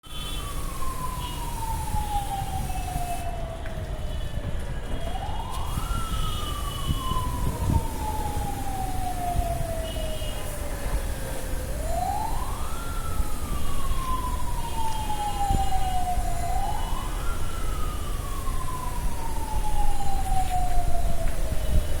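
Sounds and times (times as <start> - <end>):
siren wailing: 0.1 - 22.0.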